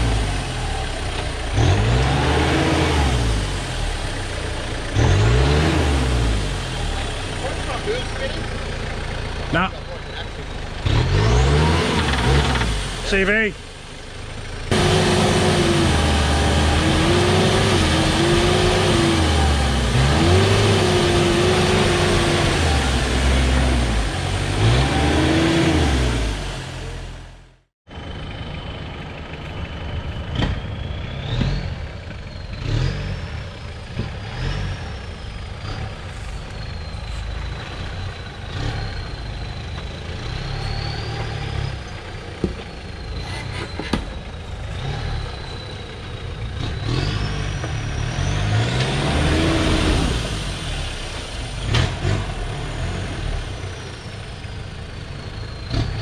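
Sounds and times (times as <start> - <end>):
engine with high-pitched whine: 0.0 - 56.0
vehicle engine revving: 0.0 - 56.0.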